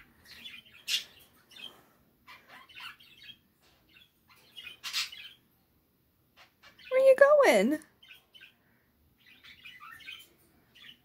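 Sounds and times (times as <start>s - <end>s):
bird chirping and squawking: 0.0s - 5.6s, 6.3s - 11.0s.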